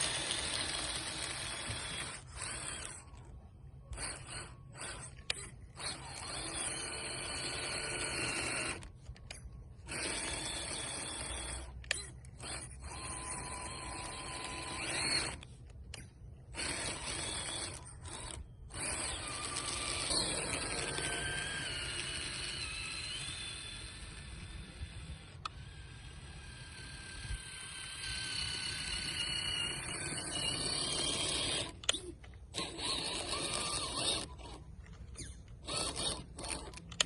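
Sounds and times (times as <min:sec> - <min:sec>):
electric motor and drivetrain whining: 0:00.0 - 0:37.0.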